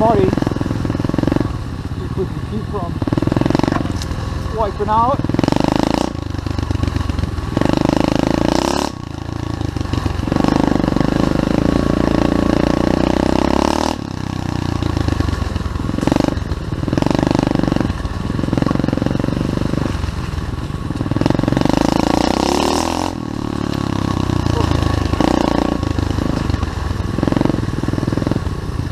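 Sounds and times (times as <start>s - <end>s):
pit bike engine revving: 0.0s - 28.9s.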